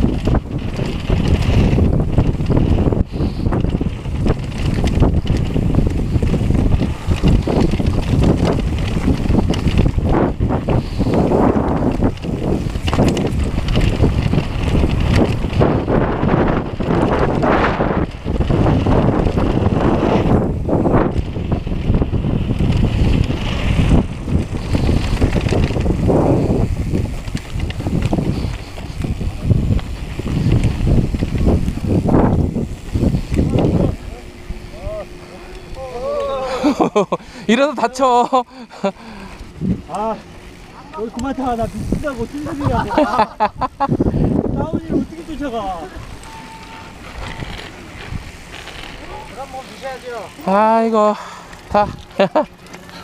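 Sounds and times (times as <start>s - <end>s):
bike rattling and knocking: 0.0s - 53.0s
tyres rumbling on dirt: 0.0s - 53.0s
wind buffeting microphone: 0.0s - 53.0s.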